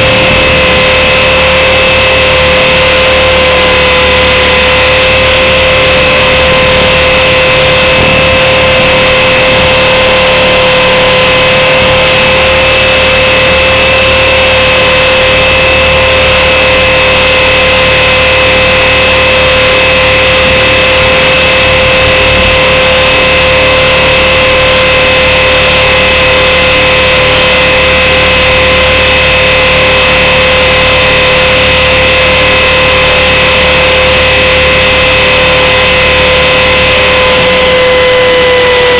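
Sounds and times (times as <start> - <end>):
heavy rushing noise: 0.0 - 38.9
helicopter motor whine: 0.0 - 38.9.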